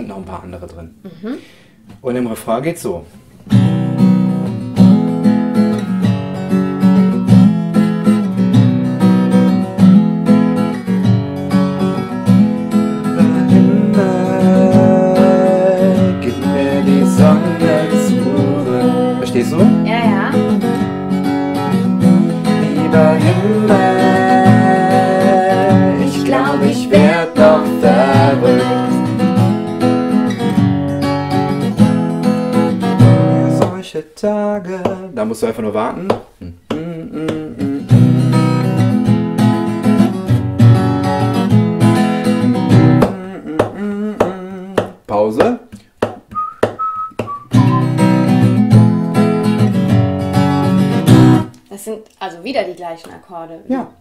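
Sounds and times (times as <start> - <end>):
acoustic guitar strumming: 3.1 - 51.6.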